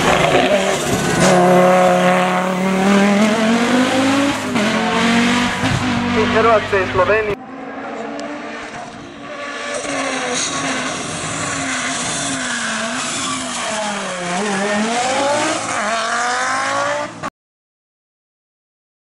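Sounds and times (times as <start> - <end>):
turbocharged engine revving hard: 0.0 - 17.3.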